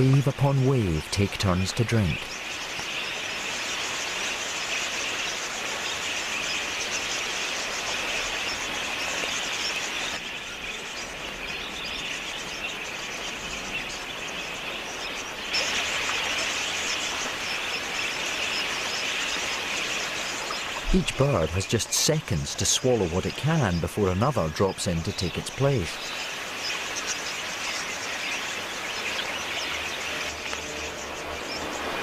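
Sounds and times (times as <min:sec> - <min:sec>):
budgerigars chattering: 0:00.0 - 0:32.0.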